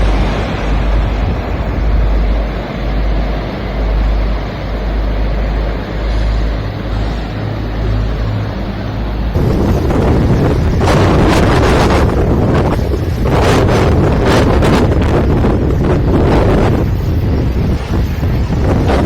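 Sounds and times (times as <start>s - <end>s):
sea waves washing against rocks: 0.0s - 19.0s
wind buffeting microphone: 0.0s - 19.0s.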